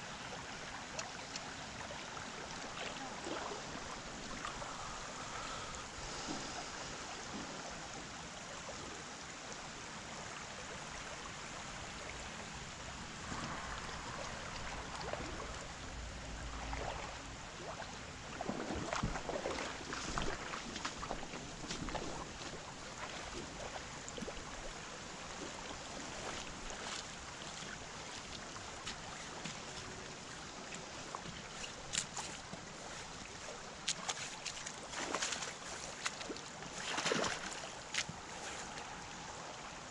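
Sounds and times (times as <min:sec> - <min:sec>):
creek water running over riffle: 0:00.0 - 0:39.9
water splashes: 0:00.0 - 0:39.9.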